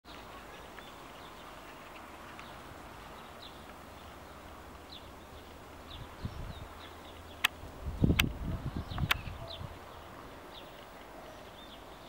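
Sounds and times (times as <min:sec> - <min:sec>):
background hiss: 0:00.1 - 0:12.0
small birds chirping: 0:00.1 - 0:12.0.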